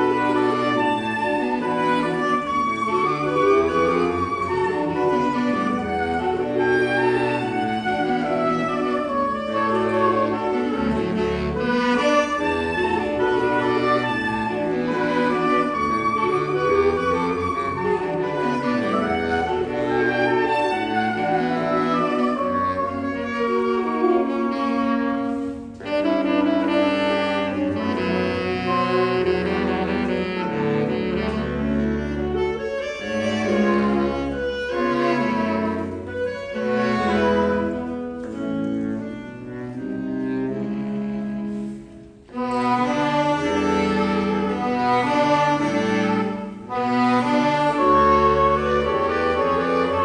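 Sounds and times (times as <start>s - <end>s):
saxophones and trumpet playing: 0.0s - 50.0s.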